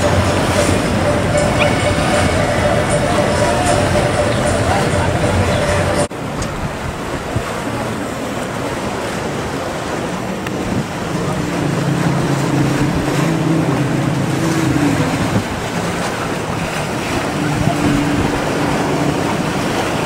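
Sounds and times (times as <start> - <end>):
boat engine droning: 0.0 - 20.0
choppy sea water rushing: 0.0 - 20.0
wind: 0.0 - 20.0.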